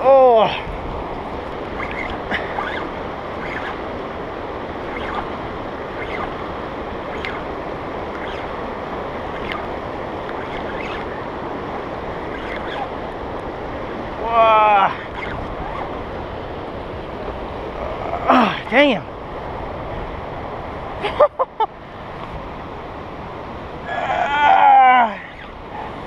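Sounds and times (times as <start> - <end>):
river rapids rushing: 0.0 - 21.1.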